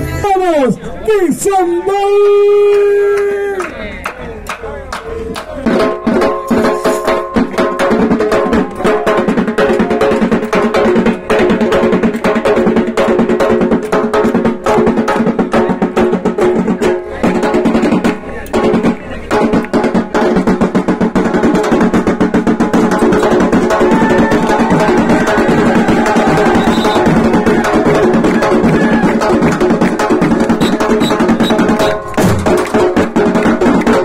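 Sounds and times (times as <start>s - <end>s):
fast dense drumming: 5.3s - 34.0s.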